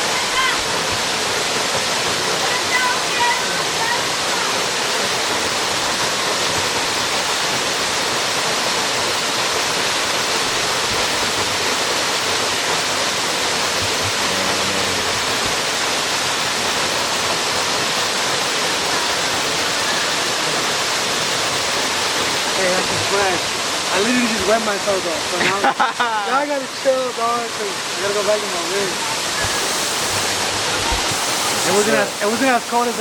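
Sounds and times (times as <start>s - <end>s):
waterfall pouring into pool: 0.0s - 33.0s.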